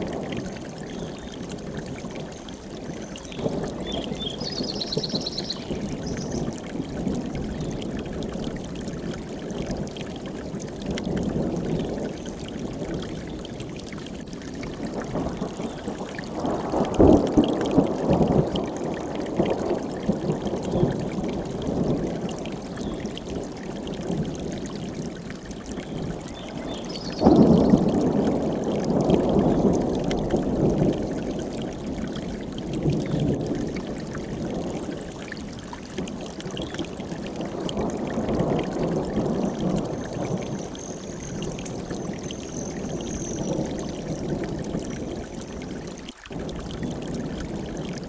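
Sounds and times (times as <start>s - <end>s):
mountain stream rushing water: 0.0s - 48.0s.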